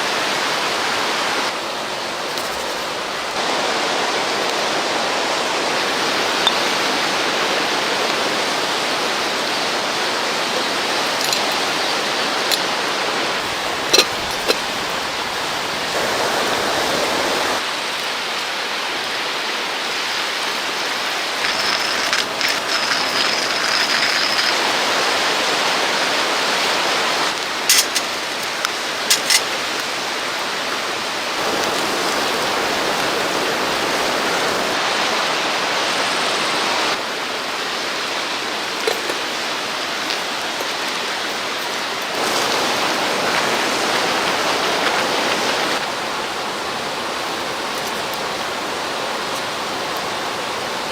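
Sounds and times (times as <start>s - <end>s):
river rushing: 0.0s - 50.9s.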